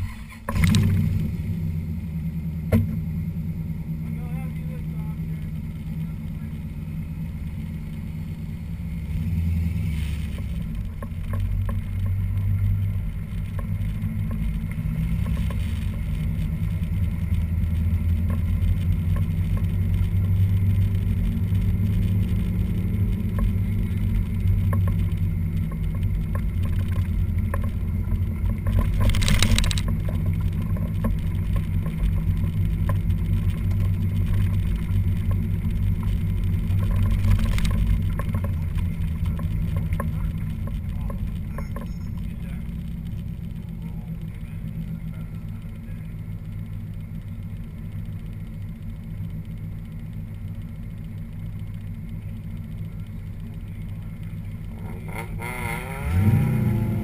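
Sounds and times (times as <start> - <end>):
car engine low rumble: 0.0 - 57.0.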